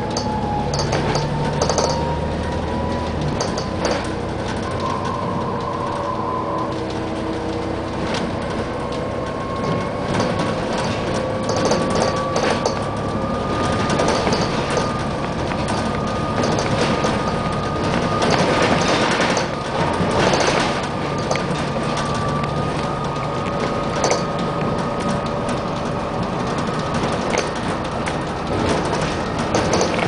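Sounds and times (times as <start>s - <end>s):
rattling clicks of bus fittings: 0.0s - 2.2s, 3.2s - 5.1s, 6.8s - 13.1s, 13.8s - 30.0s
bus diesel engine hum: 0.0s - 30.0s
road noise: 0.0s - 30.0s.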